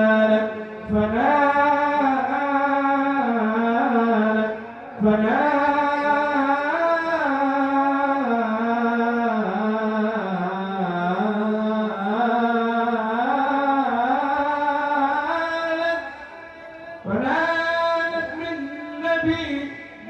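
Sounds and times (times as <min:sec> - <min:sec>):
man chanting: 0:00.0 - 0:20.0.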